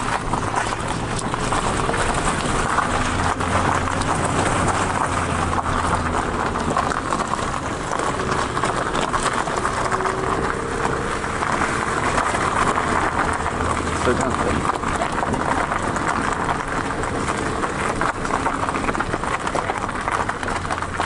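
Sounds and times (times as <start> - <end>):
car engine humming: 0.0 - 21.0
car tyres crunching over gravel: 0.0 - 21.0.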